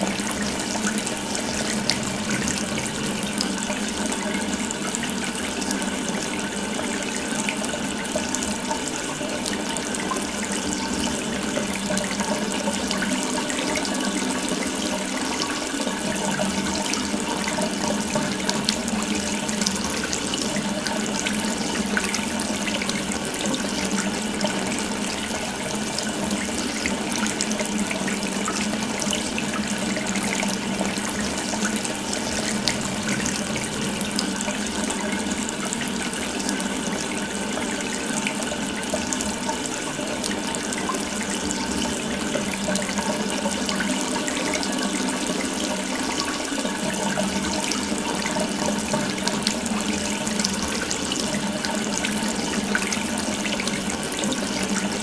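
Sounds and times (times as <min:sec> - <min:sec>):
water running from a tap: 0:00.0 - 0:55.0.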